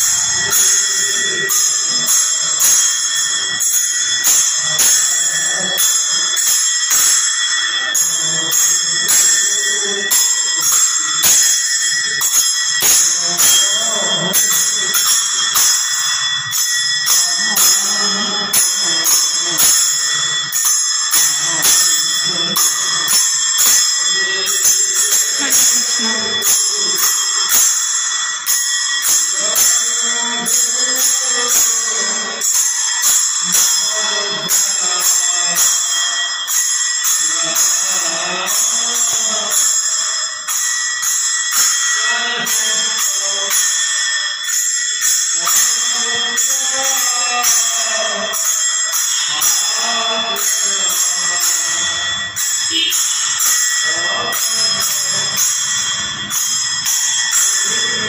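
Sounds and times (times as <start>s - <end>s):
hand cymbals clashing: 0.0s - 58.0s.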